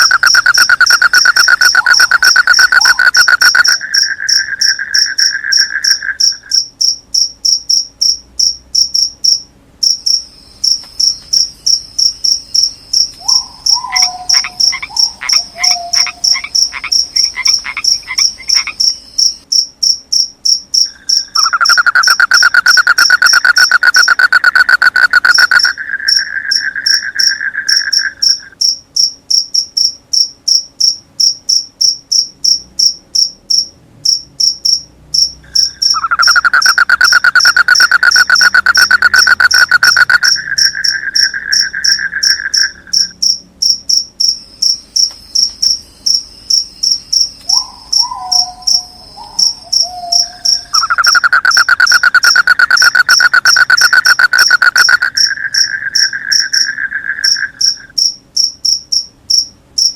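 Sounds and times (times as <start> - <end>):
crickets chirping: 0.0 - 59.9
lower pulsing insect trill: 0.0 - 59.9.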